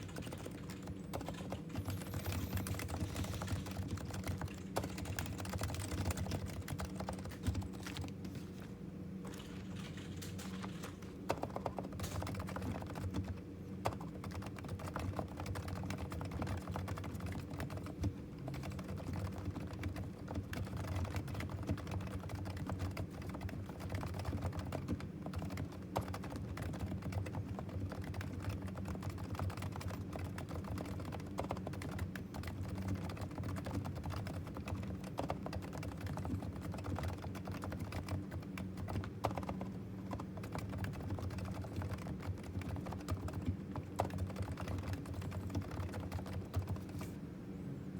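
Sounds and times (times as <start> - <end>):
keyboard typing: 0.0 - 8.4, 9.3 - 47.1.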